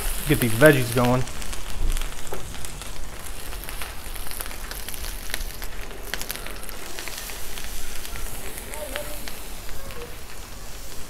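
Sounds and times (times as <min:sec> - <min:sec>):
fat crackling and popping: 0:00.0 - 0:11.0
food sizzling on a griddle: 0:00.0 - 0:11.0.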